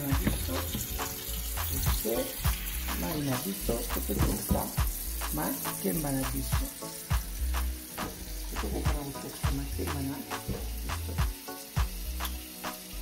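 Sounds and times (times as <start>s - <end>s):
background music with bass: 0.0s - 13.0s.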